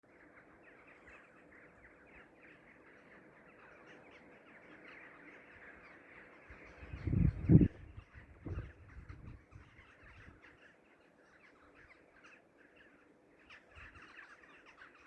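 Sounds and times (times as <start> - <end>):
flock of small birds chirping: 0.0 - 15.0.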